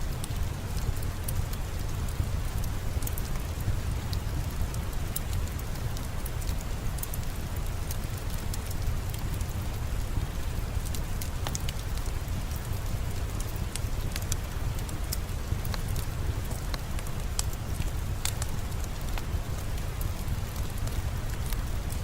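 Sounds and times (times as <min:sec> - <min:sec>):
steady rain: 0:00.0 - 0:22.0
wood fire crackling: 0:00.1 - 0:22.0.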